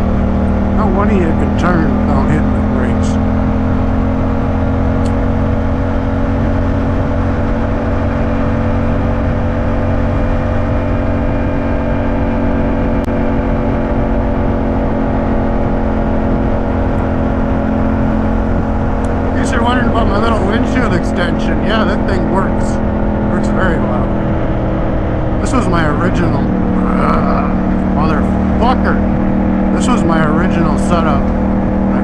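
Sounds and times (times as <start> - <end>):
motorcycle engine cruising: 0.0 - 32.0
road noise: 0.0 - 32.0
wind noise: 0.0 - 32.0.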